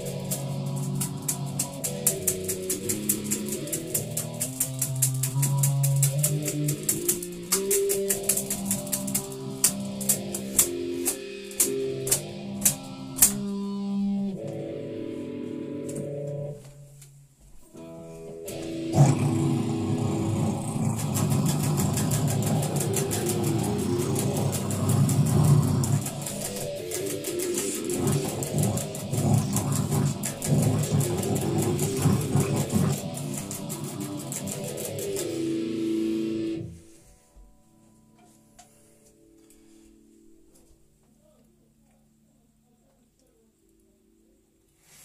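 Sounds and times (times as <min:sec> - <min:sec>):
electric guitar metal riff: 0:00.0 - 0:16.9, 0:17.7 - 0:37.0.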